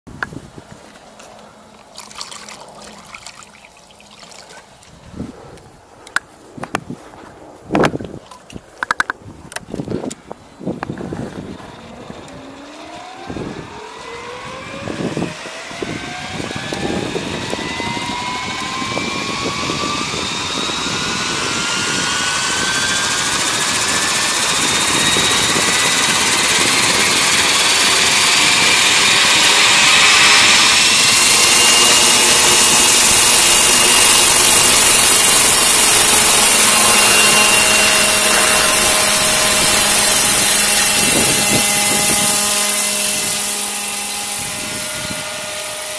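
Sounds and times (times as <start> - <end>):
model helicopter whine: 0.1 - 8.2, 8.8 - 45.9.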